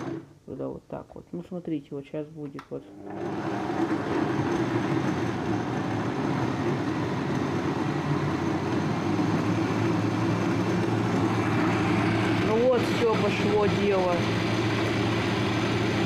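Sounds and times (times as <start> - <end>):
blender running: 0.0 - 0.3, 2.9 - 16.0.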